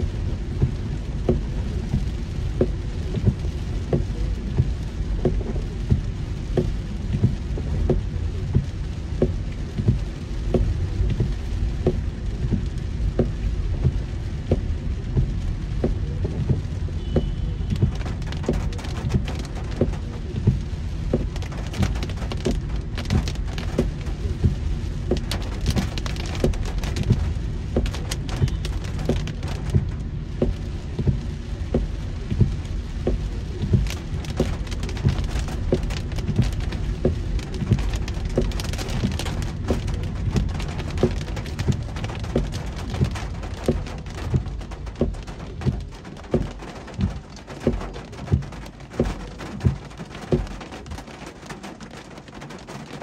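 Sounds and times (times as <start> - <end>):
heavy rain hitting a car: 0.0 - 53.0.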